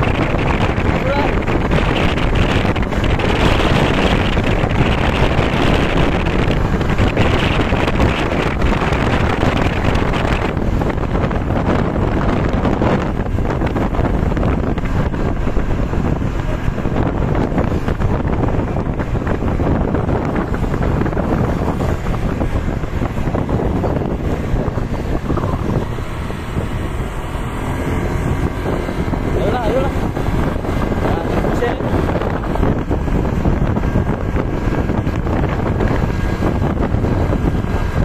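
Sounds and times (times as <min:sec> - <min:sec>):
vehicle and road noise: 0:00.0 - 0:38.0
wind buffeting microphone: 0:00.0 - 0:38.0.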